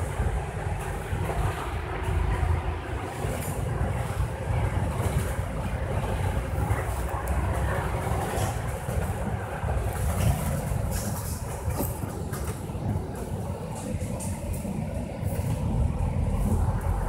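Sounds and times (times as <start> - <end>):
bus diesel engine rumble: 0.0 - 17.0
tyre noise on wet road: 0.0 - 17.0.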